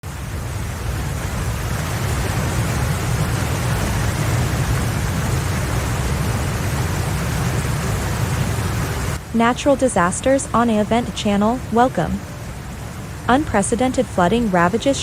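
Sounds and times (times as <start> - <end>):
heavy rain rushing: 0.0 - 15.0.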